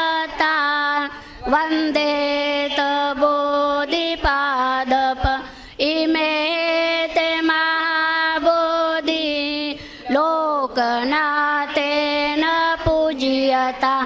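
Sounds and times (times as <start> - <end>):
women chanting in unison: 0.0 - 14.0.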